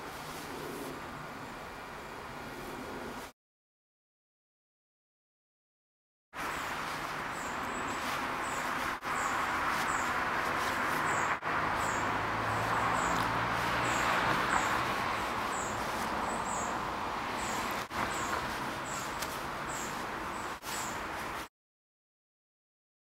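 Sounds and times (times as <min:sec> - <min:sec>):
outdoor background hiss: 0:00.0 - 0:03.3, 0:06.4 - 0:21.5.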